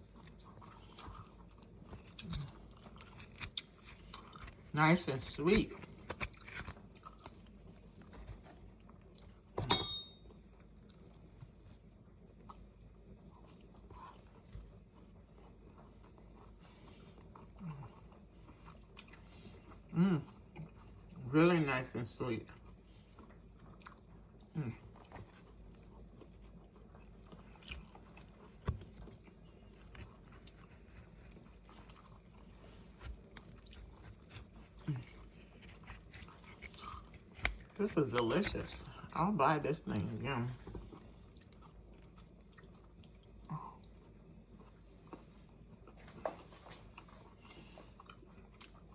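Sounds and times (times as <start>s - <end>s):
person chewing: 0.0s - 9.6s, 10.3s - 21.2s, 22.5s - 48.9s.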